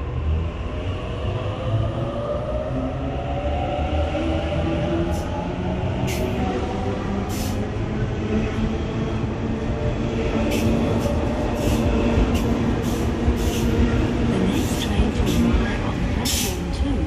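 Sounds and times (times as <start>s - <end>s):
train rumble with motor hum: 0.0s - 17.0s.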